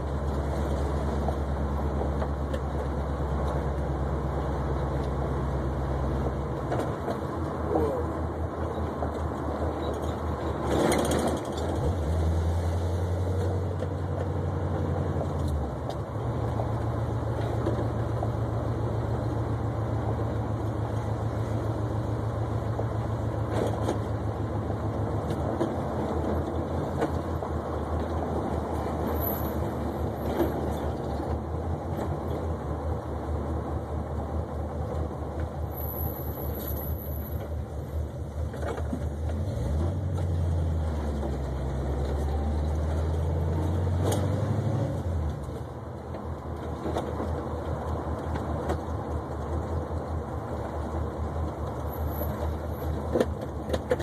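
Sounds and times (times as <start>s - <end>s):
car engine driving: 0.0s - 54.0s.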